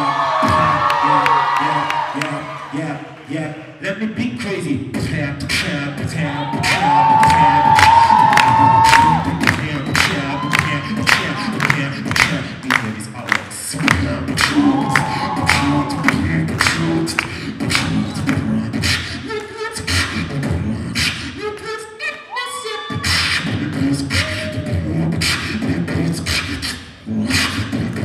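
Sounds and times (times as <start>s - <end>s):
beatboxing through a microphone: 0.0s - 28.0s.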